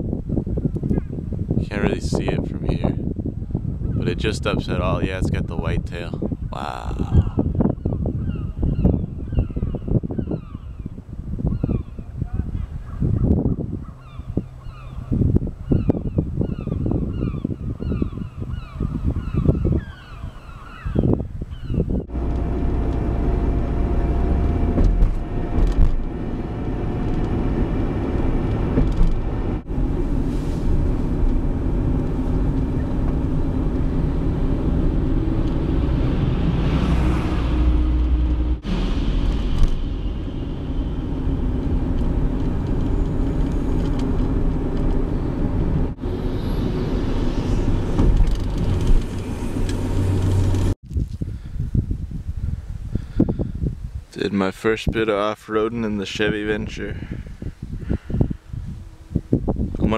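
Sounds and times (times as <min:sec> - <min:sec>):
minivan engine and road rumble: 0:00.0 - 0:52.2.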